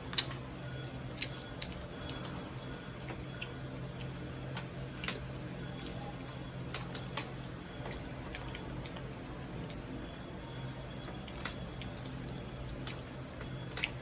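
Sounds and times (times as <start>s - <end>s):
crispy food chewing crackles: 0.0s - 14.0s
steady low hum: 0.0s - 14.0s.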